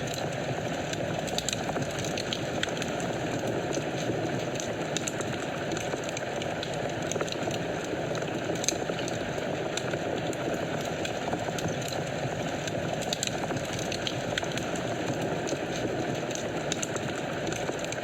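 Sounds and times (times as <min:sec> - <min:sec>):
fire crackles and pops: 0:00.0 - 0:18.0
wood fire flames rushing: 0:00.0 - 0:18.0.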